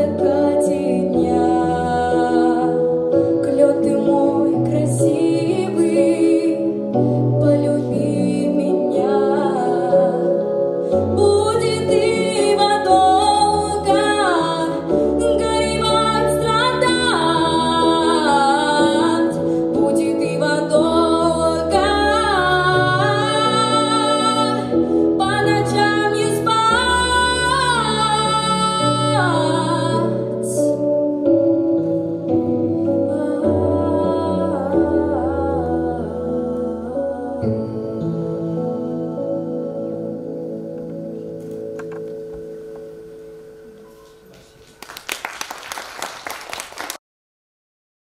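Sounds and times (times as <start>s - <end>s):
woman singing into a microphone: 0.0s - 41.1s.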